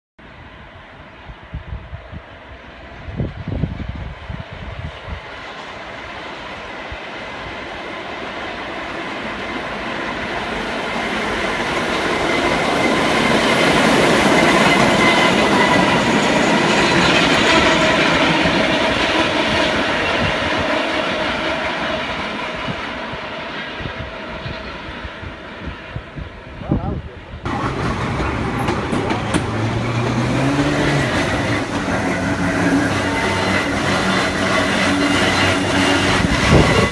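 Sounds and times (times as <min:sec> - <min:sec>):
train wheel and rail noise: 0:00.2 - 0:36.9.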